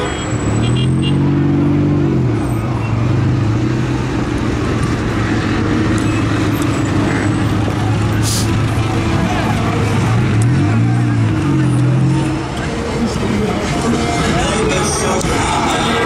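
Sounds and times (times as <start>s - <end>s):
car engines droning: 0.0s - 16.0s
traffic noise: 0.0s - 16.0s.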